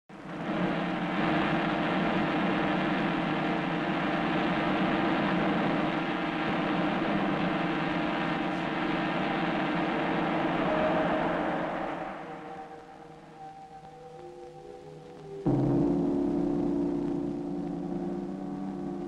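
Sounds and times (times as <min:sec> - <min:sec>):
electronic drone: 0:00.1 - 0:19.0.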